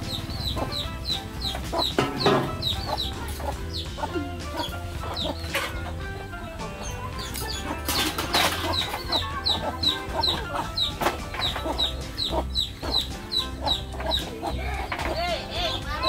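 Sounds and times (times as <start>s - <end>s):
background music: 0.0s - 16.0s
chickens clucking: 0.0s - 16.0s.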